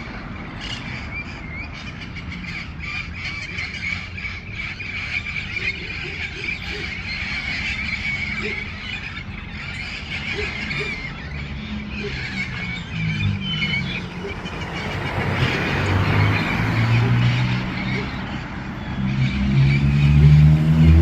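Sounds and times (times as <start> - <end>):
parrots chattering and squealing: 0.0 - 19.4.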